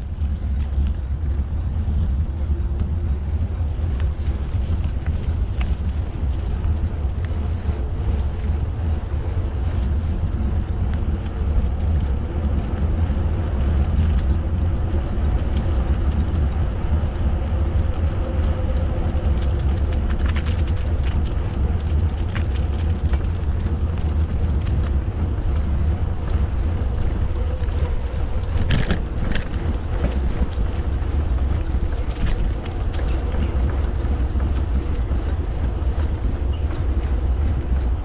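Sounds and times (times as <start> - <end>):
bike tyres rolling on asphalt: 0.0 - 38.0
wind buffeting microphone: 0.0 - 38.0.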